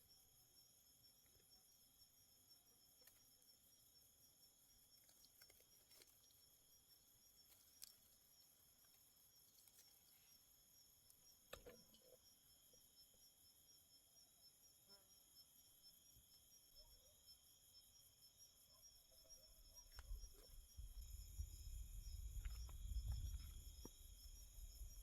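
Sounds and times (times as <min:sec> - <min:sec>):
insect pulsing trill: 0:00.0 - 0:25.0
insects chirping: 0:00.0 - 0:25.0.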